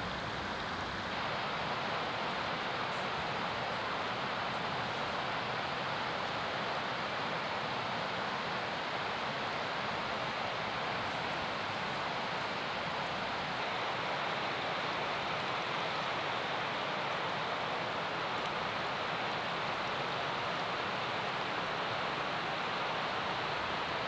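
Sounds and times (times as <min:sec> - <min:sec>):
open-air rushing ambience: 0:00.0 - 0:24.0.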